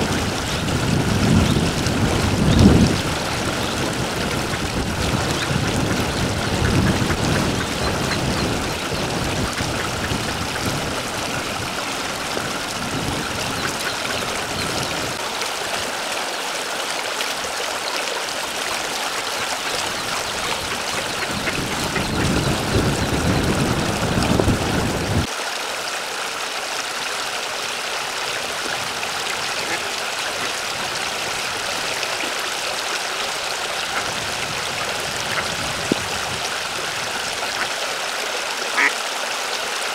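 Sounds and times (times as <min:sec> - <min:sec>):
water gurgling into pond: 0:00.0 - 0:39.9.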